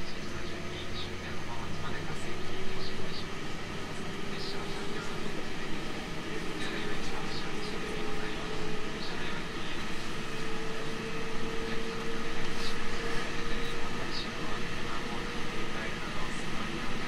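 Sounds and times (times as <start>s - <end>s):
electric train rumble: 0.0s - 17.0s
faint steady whine: 0.0s - 17.0s.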